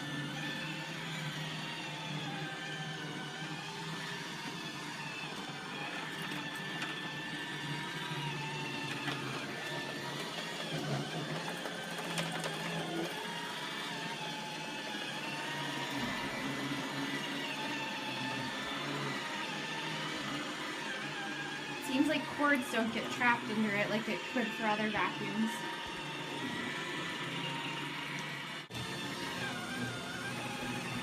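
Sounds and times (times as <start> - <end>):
robot vacuum motor whine: 0.0 - 31.0.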